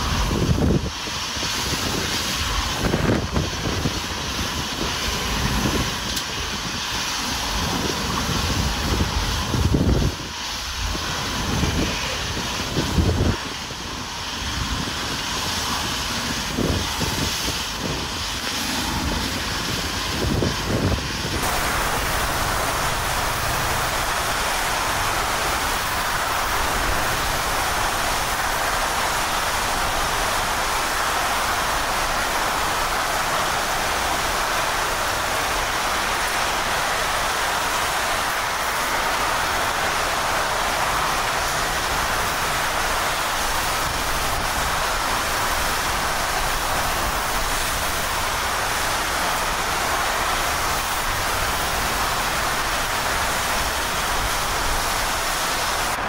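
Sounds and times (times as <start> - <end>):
heavy rain and wind: 0.0 - 56.0.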